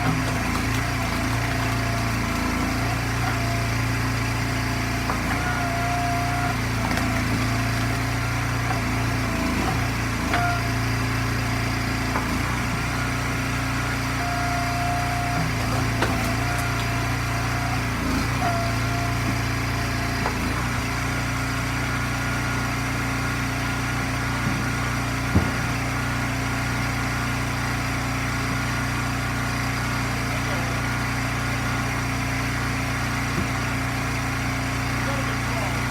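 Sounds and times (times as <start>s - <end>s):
log splitter engine running: 0.0s - 35.9s.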